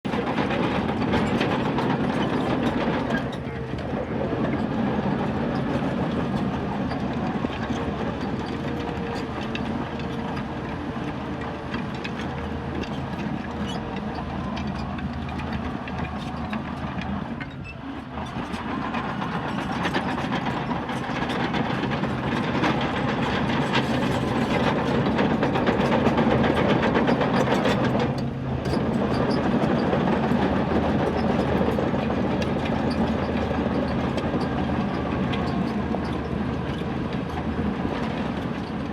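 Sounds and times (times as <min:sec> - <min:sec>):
bulldozer diesel engine: 0:00.0 - 0:38.9
crawler tracks clanking: 0:00.1 - 0:38.9.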